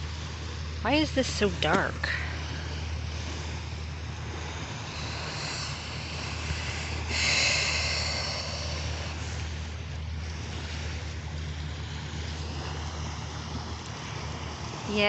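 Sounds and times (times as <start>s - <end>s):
small waves washing on a beach: 0.0s - 15.0s
steady low rumble: 0.0s - 15.0s.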